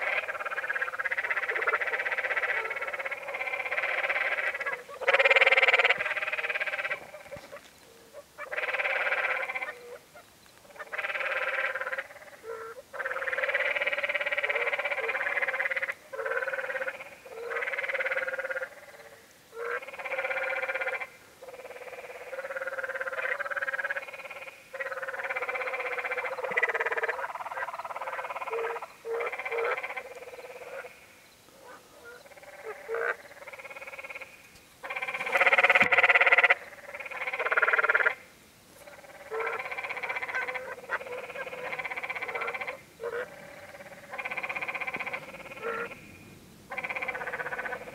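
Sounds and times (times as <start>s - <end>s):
tree frogs calling: 0.0s - 47.9s.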